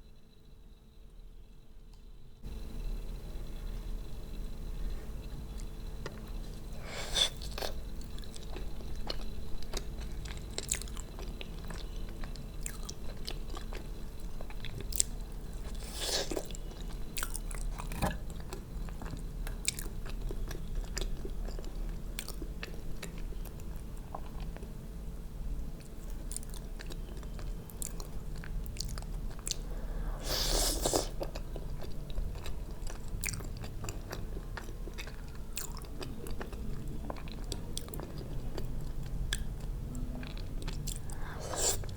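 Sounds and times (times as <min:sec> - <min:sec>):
person chewing food: 0:05.0 - 0:24.7, 0:25.8 - 0:41.9.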